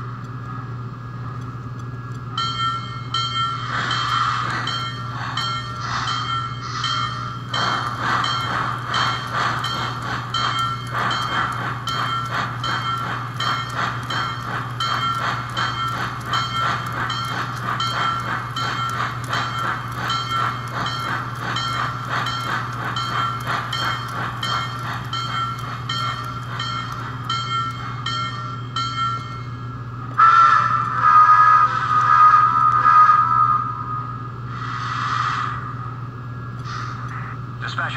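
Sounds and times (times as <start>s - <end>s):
toy train steam chuffing: 2.4s - 29.2s, 30.2s - 37.9s.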